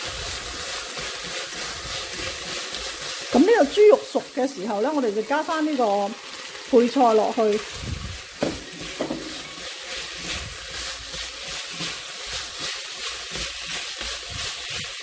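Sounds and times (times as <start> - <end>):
food sizzling in a wok: 0.0 - 15.0
spatula stirring in a wok: 0.0 - 15.0.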